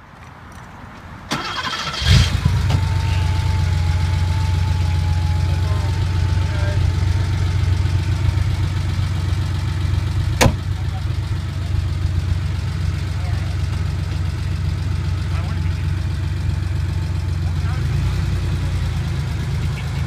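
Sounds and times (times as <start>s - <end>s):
car engine starting and idling: 1.3s - 20.0s.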